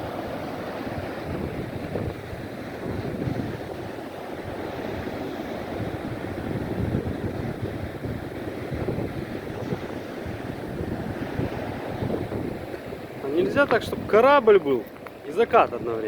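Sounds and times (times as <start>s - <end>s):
sea waves washing ashore: 0.0s - 16.0s
wind buffeting microphone: 0.0s - 16.0s.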